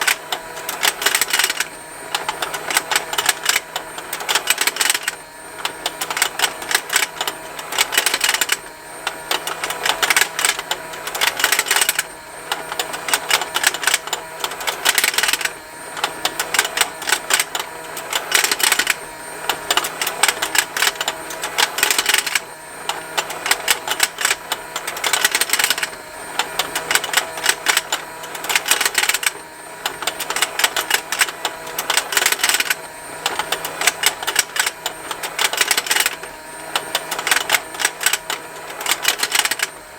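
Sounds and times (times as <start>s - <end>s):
plastic toy ticking and snapping: 0.0s - 5.2s, 5.8s - 8.6s, 9.3s - 12.1s, 12.7s - 22.4s, 23.2s - 25.9s, 26.5s - 39.7s
small motor hum: 0.0s - 39.9s.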